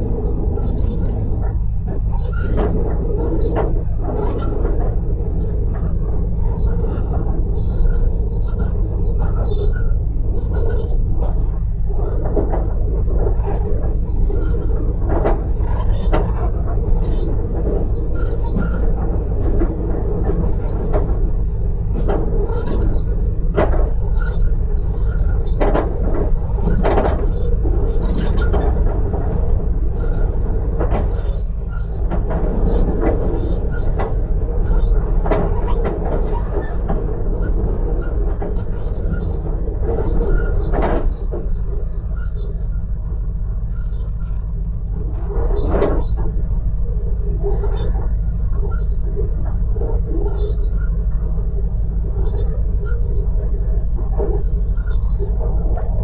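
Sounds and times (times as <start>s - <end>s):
rattles and knocks: 0.0s - 56.0s
train rumbling from inside carriage: 0.0s - 56.0s.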